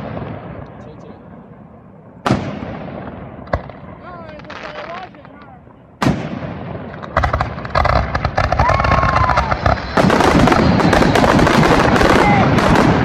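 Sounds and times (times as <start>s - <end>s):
fireworks cracking and popping: 2.2s - 13.0s.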